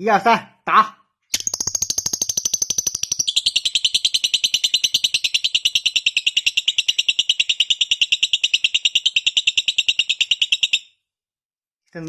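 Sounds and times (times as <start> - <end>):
parrot chirping rapidly: 1.3 - 11.0.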